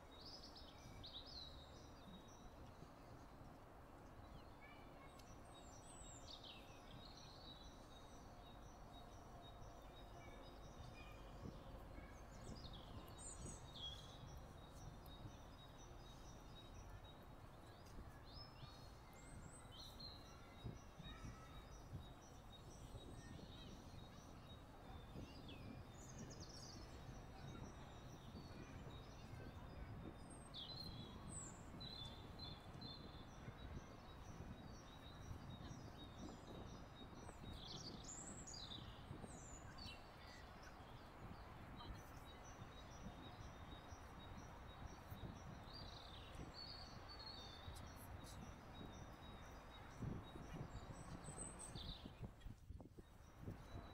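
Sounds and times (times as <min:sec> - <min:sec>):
low wind rumble: 0:05.4 - 0:53.9.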